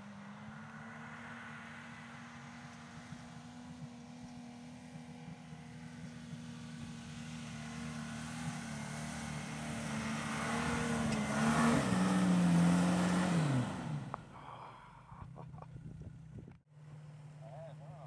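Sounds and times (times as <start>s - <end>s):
engine pulling hard uphill: 0.0s - 18.0s.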